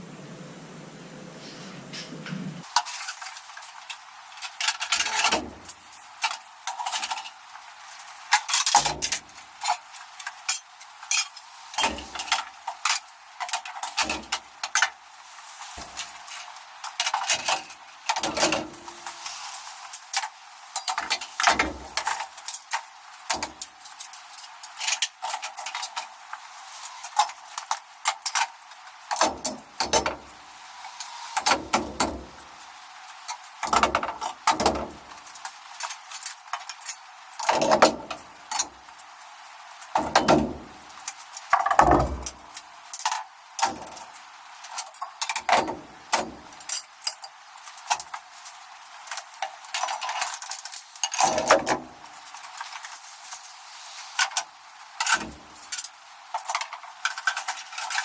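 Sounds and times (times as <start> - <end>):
garden tools clanking on metal rack: 2.6 - 7.4, 8.3 - 15.0, 15.6 - 32.4, 33.3 - 38.7, 39.9 - 48.2, 49.1 - 53.6, 54.2 - 58.0.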